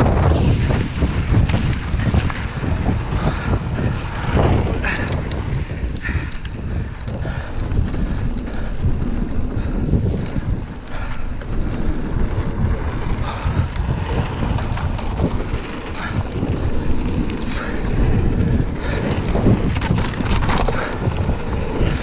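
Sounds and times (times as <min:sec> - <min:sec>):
grit and bike rattling: 0:00.0 - 0:22.0
tyres rumbling on gravel trail: 0:00.0 - 0:22.0
wind buffeting microphone: 0:00.0 - 0:22.0.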